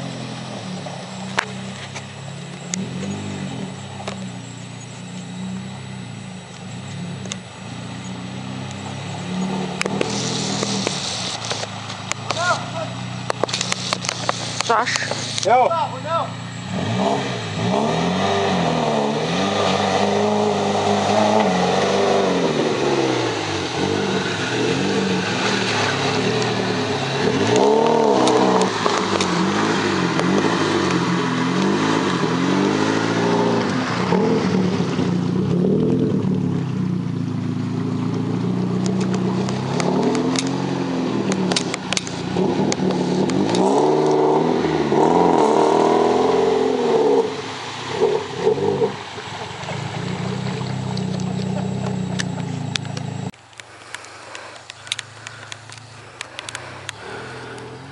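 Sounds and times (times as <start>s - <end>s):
engine revving: 0.0s - 57.9s.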